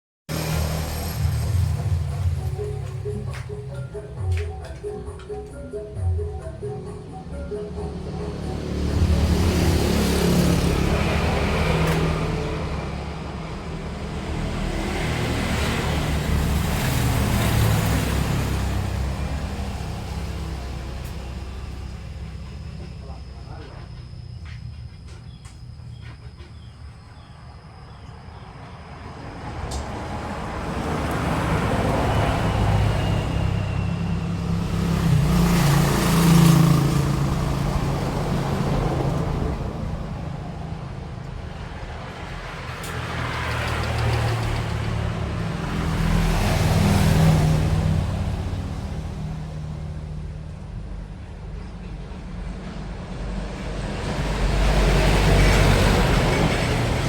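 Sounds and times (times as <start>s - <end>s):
road traffic passing: 0.3s - 57.0s.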